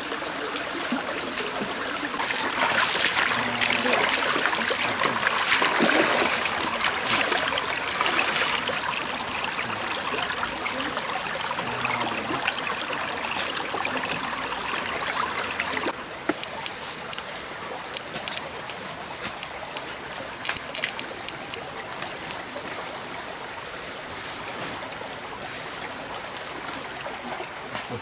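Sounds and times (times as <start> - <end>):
stream water trickling: 0.0 - 28.0.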